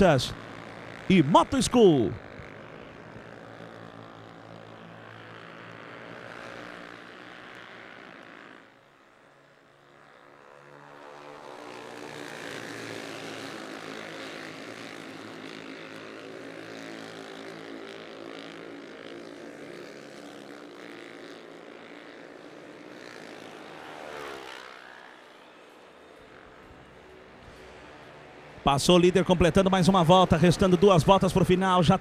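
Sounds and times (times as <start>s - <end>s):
motorcycle engines droning: 0.0s - 32.0s
motorcycle passing by: 0.0s - 32.0s.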